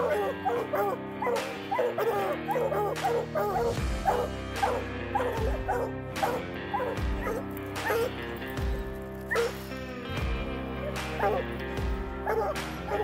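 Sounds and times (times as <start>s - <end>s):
hounds barking: 0.0s - 9.8s, 10.6s - 13.0s
background music with held notes: 0.0s - 13.0s.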